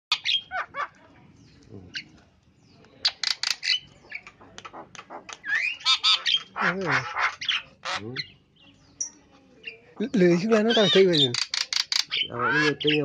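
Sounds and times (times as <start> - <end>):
myna calling: 0.1 - 2.2, 3.0 - 13.0.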